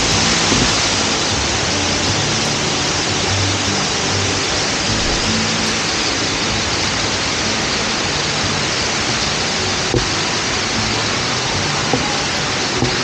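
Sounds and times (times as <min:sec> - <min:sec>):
rush of falling water: 0:00.0 - 0:13.0.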